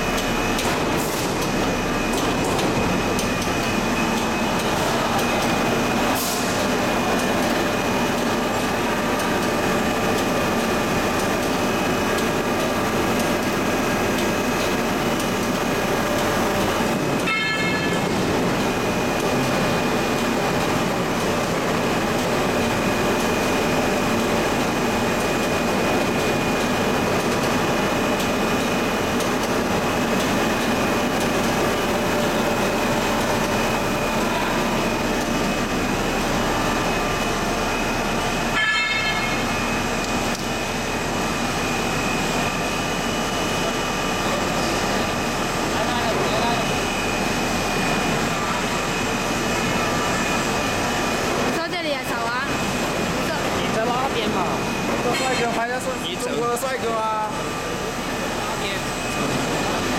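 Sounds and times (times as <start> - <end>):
high machine whine: 0.0 - 59.9
industrial machinery din: 0.0 - 59.9.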